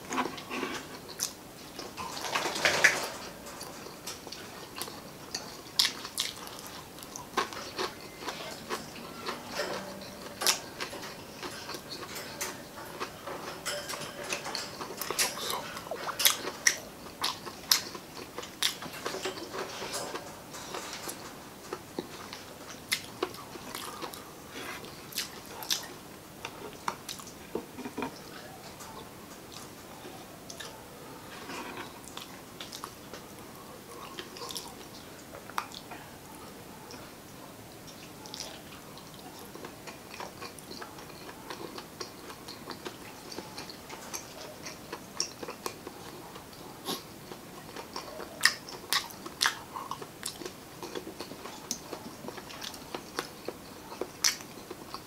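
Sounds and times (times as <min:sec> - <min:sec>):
chewing: 0:00.1 - 0:55.0.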